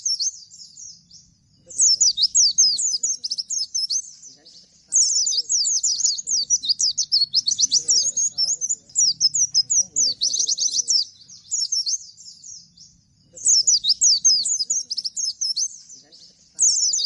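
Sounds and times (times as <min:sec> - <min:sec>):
bird singing high whistled notes: 0:00.0 - 0:04.3, 0:04.9 - 0:17.0.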